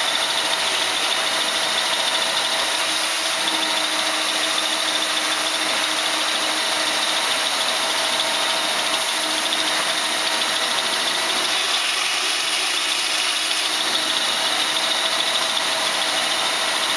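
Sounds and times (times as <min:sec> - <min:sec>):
lathe cutting with mechanical hiss: 0:00.0 - 0:16.9.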